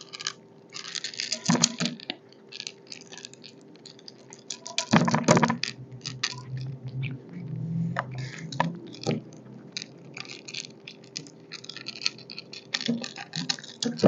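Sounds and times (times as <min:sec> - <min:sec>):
cat crunching food: 0:00.0 - 0:07.0, 0:08.2 - 0:14.0.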